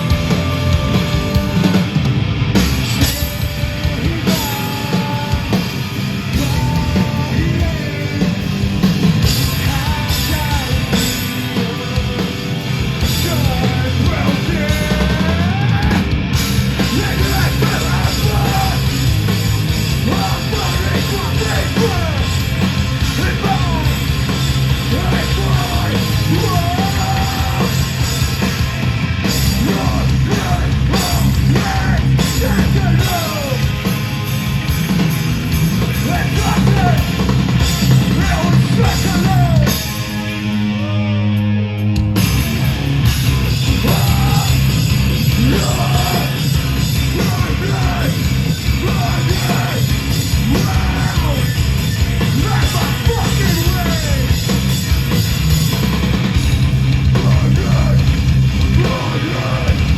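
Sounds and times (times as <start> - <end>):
live metal band playing: 0.0 - 59.9
yelled and sung vocals: 0.0 - 59.9.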